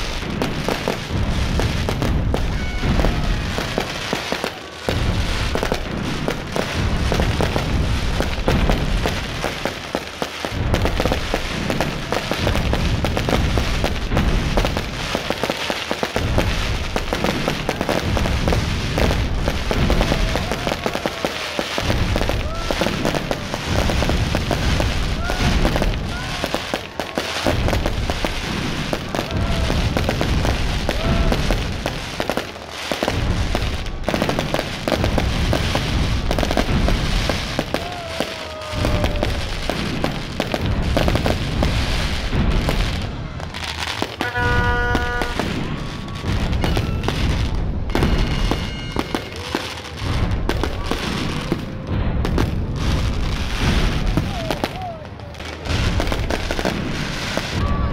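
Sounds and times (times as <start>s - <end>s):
fireworks bangs and crackling: 0.0s - 57.9s
fireworks whistling: 0.0s - 57.9s.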